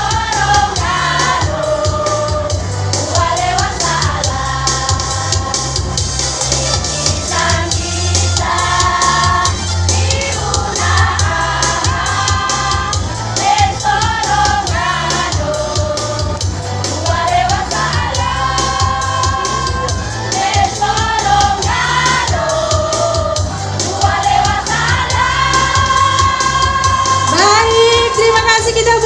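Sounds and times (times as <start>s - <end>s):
choir singing in harmony: 0.0s - 28.5s
backing music with bass and beat: 0.0s - 29.0s.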